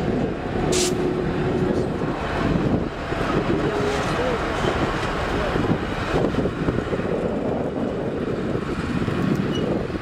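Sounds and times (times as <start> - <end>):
train coaches rumbling on rails: 0.0 - 10.0
wind buffeting microphone: 0.0 - 10.0.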